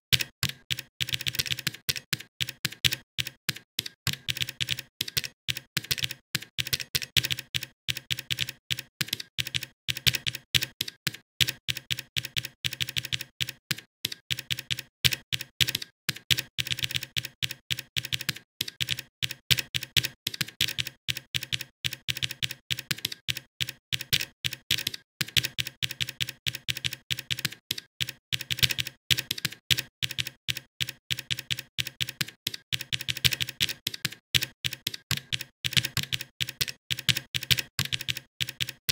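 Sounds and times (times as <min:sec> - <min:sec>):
computer keyboard typing: 0:00.1 - 0:38.9.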